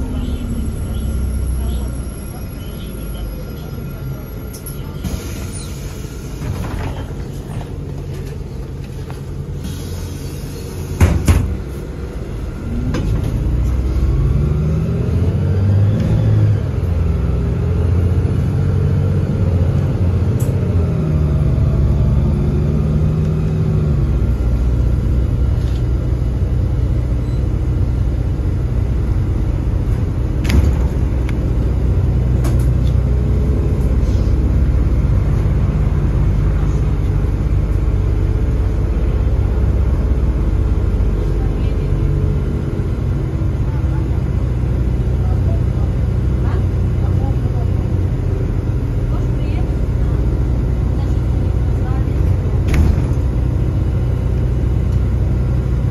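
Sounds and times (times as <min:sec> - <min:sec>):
bus engine rumble: 0:00.0 - 0:55.9
road noise: 0:00.0 - 0:55.9.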